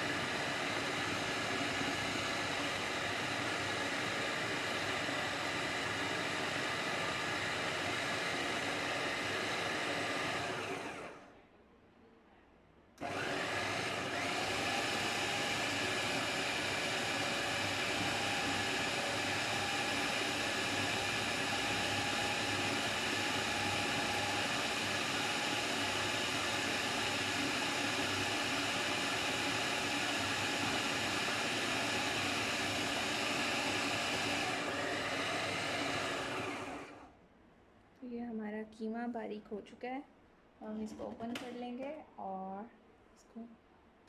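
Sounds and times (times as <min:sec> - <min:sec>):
food processor motor running: 0:00.0 - 0:11.2, 0:13.0 - 0:37.1.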